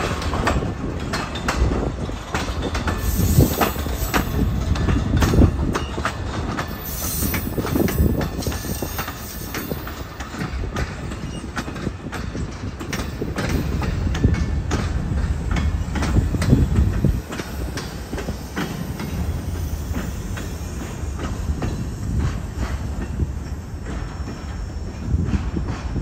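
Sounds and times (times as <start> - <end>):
train low rumble: 0.0 - 26.0
wheels clacking over rail joints: 0.0 - 26.0.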